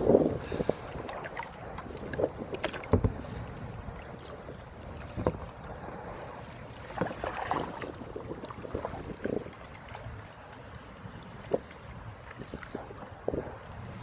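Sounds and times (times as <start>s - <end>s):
paddle splashing in water: 0.0s - 14.0s
wind on microphone: 0.0s - 14.0s.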